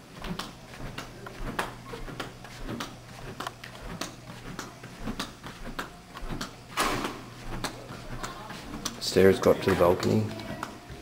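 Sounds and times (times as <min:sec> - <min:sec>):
footsteps on a floor: 0:00.0 - 0:11.0
steady low hum: 0:00.0 - 0:11.0.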